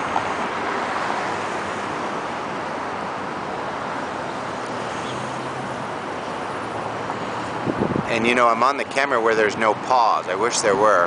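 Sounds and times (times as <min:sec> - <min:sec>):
passing cars rushing: 0:00.0 - 0:11.0.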